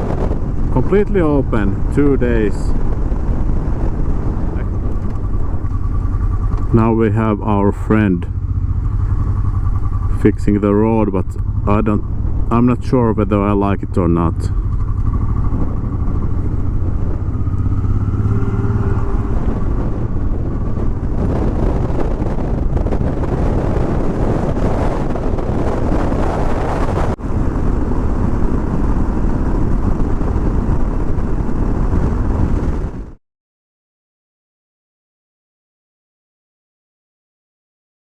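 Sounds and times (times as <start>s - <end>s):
motorcycle engine: 0.0s - 33.2s
road noise: 0.0s - 33.2s
wind noise: 0.0s - 33.2s.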